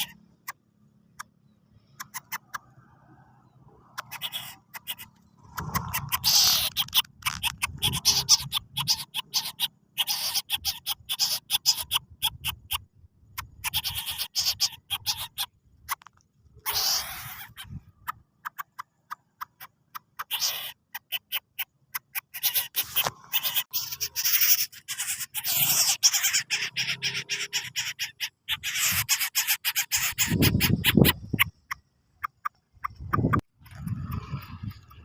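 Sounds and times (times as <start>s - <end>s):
bird clicking and hissing calls: 3.9s - 12.8s, 13.4s - 16.0s, 16.6s - 17.8s, 18.4s - 35.0s.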